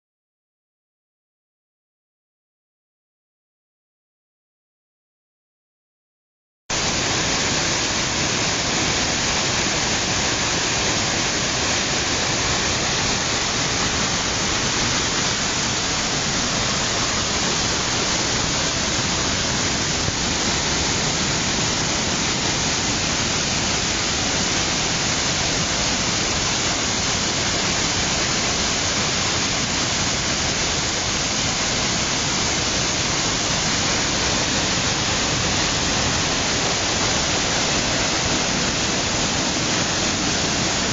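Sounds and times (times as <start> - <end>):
waterfall rushing: 6.7 - 40.9.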